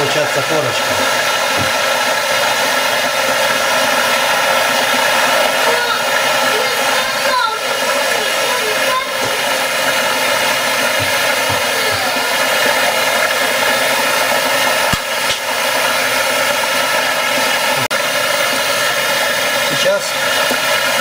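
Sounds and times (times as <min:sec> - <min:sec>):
heat gun fan whine: 0:00.0 - 0:21.0.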